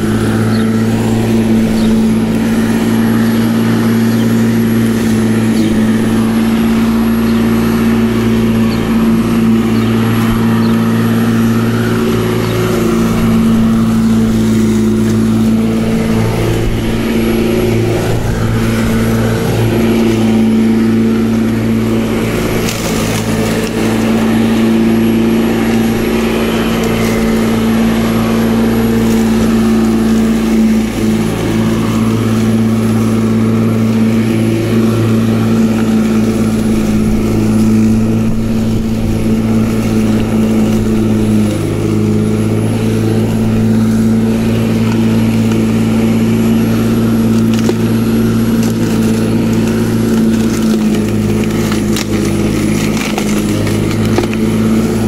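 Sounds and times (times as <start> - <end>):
electric lawnmower cutting grass: 0.0 - 55.0.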